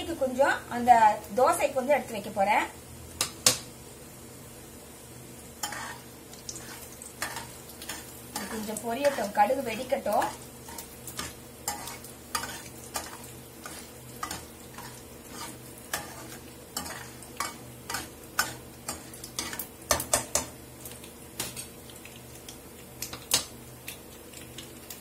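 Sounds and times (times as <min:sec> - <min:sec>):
seeds sizzling in hot oil: 0:00.0 - 0:25.0.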